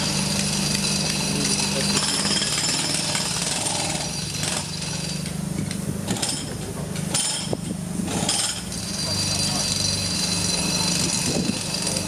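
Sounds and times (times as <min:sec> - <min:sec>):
low machinery hum: 0:00.0 - 0:12.0
pneumatic breaker hammering: 0:00.0 - 0:12.0.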